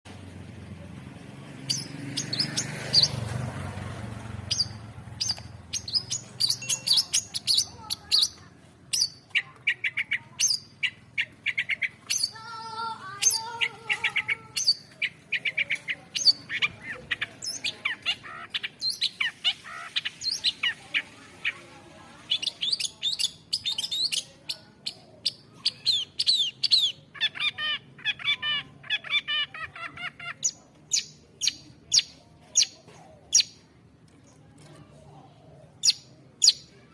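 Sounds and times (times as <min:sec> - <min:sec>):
shrike singing chirps and trills: 0:01.6 - 0:03.3, 0:04.2 - 0:21.6, 0:22.2 - 0:33.6, 0:35.8 - 0:36.8.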